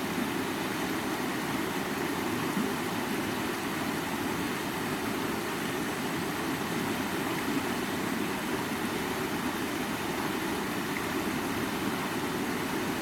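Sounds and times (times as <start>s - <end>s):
stream water running over rocks: 0.0s - 13.0s.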